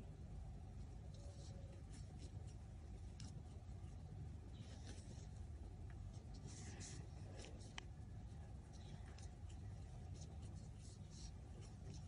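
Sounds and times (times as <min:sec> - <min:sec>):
yarn rustling through crochet hook: 0:00.7 - 0:12.0.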